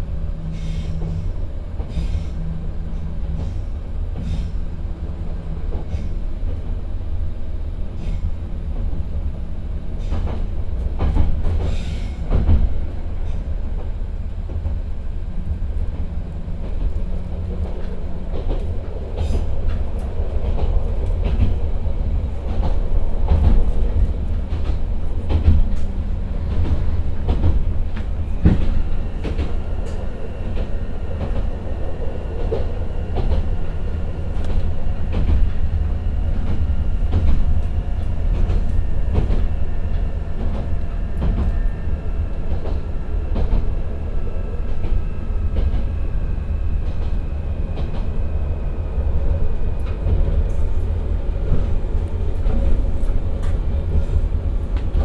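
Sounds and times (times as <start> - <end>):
railcar running gear rumble: 0.0 - 55.0.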